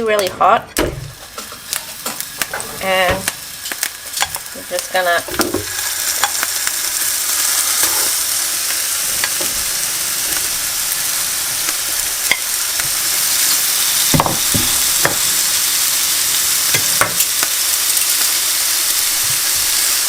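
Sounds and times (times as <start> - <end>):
meatballs sizzling in pan: 0.9 - 20.0.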